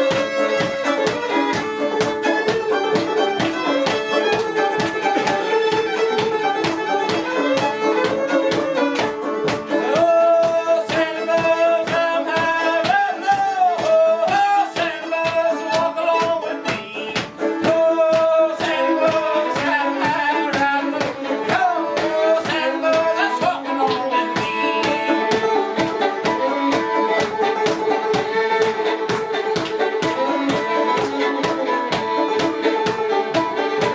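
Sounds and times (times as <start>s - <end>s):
fiddle tune with sliding notes: 0.0s - 33.9s
rhythmic beat of sharp strokes: 0.0s - 33.9s.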